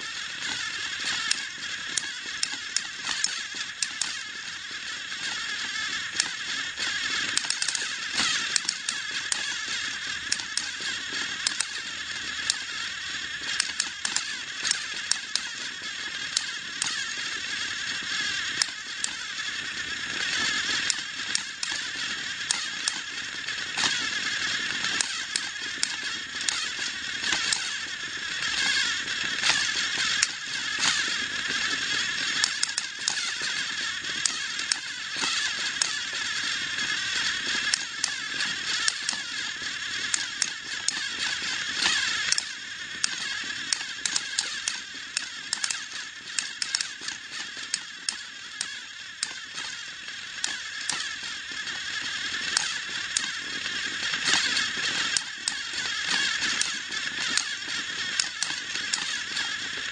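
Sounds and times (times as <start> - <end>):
toy train motor whir: 0.0 - 59.9
wheels clicking on plastic track: 0.0 - 59.9.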